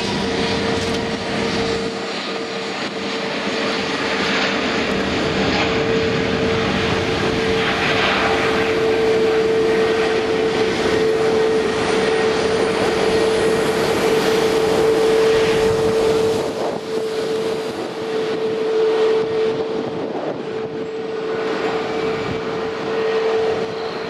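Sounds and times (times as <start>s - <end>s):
jet engine roar at takeoff: 0.0s - 24.0s.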